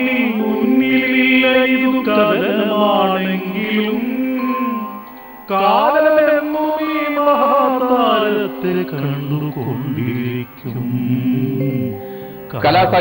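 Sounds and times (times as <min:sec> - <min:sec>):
man singing slow melody: 0:00.0 - 0:13.0.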